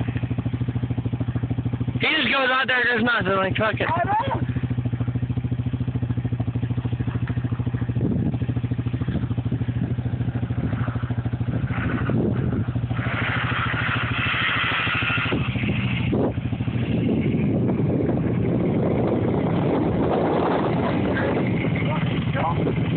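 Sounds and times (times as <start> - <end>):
distant dirt bike revving: 0.0 - 22.9
engine idling: 0.0 - 22.9.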